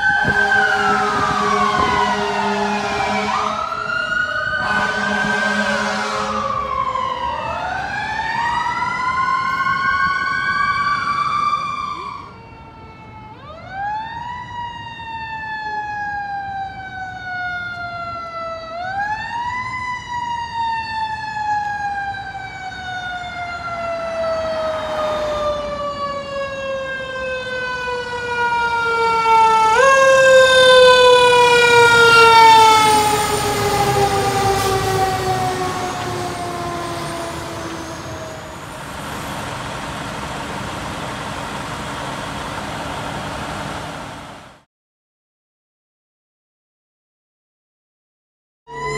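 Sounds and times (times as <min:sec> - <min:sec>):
engine and tyre noise: 0:00.0 - 0:44.7
fire engine siren wailing: 0:00.0 - 0:44.7, 0:48.7 - 0:48.9
traffic noise: 0:00.0 - 0:44.7.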